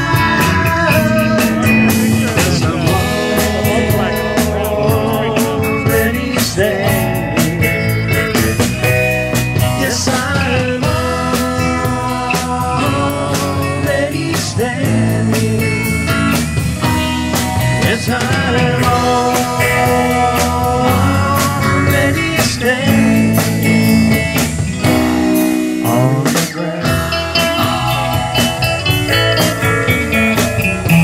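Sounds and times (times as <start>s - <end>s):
live band with electric guitars: 0.0s - 31.0s.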